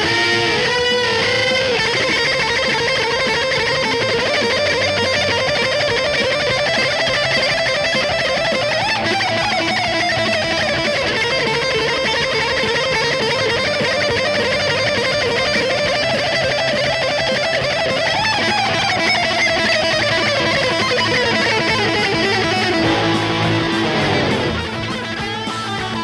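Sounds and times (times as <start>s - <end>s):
fast guitar solo: 0.0s - 26.0s.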